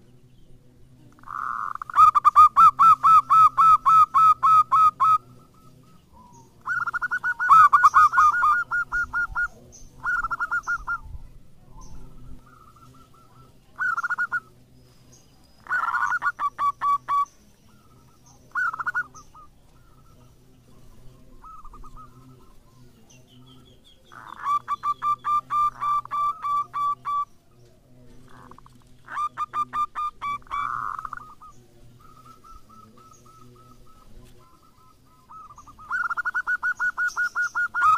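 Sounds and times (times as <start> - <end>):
dove cooing: 1.1 - 15.0, 15.6 - 37.9.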